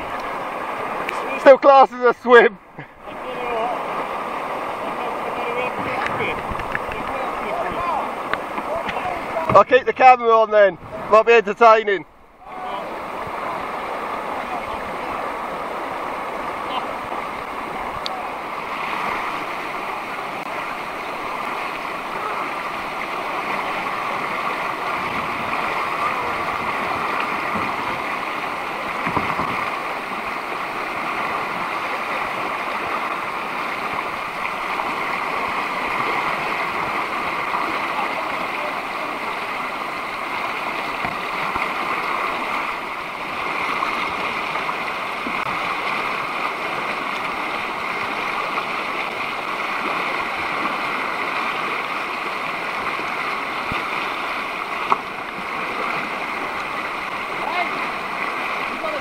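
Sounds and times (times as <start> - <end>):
river rapids rushing: 0.0 - 59.0.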